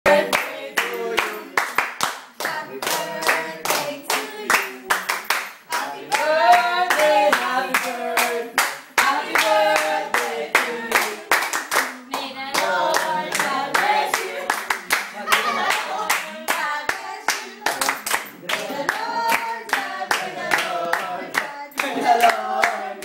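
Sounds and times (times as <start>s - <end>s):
people singing together: 0.0s - 23.0s
hands clapping: 0.2s - 23.0s.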